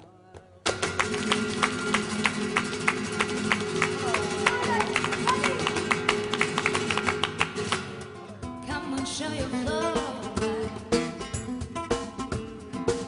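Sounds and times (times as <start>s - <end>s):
flamenco acoustic guitar: 0.6s - 13.0s.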